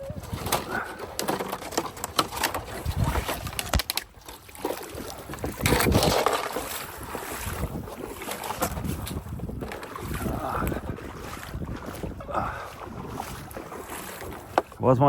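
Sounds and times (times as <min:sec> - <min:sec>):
water splashing and sloshing: 0:00.0 - 0:15.0
wind buffeting microphone: 0:00.0 - 0:15.0.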